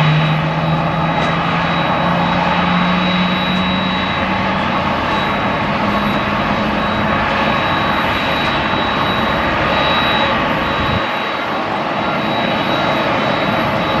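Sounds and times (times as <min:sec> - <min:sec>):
high thin whine: 0:00.0 - 0:14.0
jet airliner rumble: 0:00.0 - 0:14.0.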